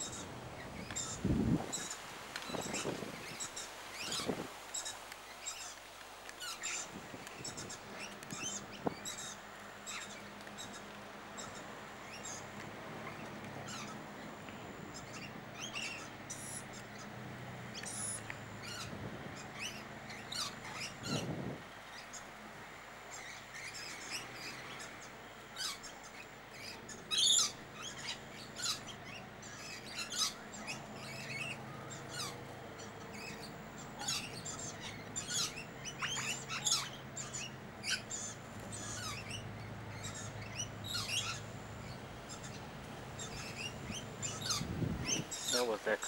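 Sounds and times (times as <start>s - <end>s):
birds chirping sharply: 6.4s - 22.4s, 23.0s - 46.0s.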